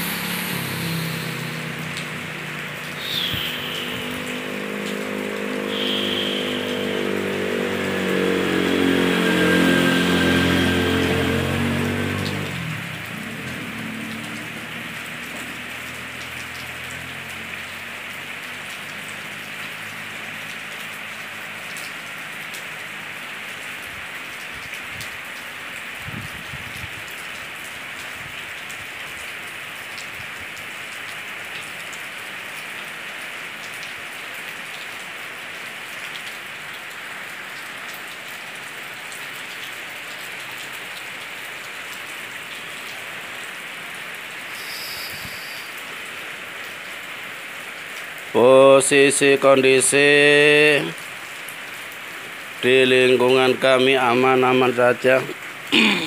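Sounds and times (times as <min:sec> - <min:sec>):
raindrops ticking close by: 0:00.0 - 0:56.0
steady rain falling: 0:00.0 - 0:56.0.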